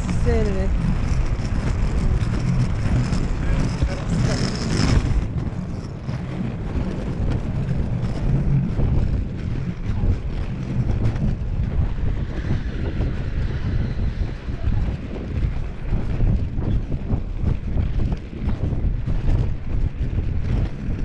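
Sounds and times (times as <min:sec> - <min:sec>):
skate wheels rolling on pavement: 0:00.0 - 0:21.0
wind buffeting microphone: 0:00.0 - 0:21.0.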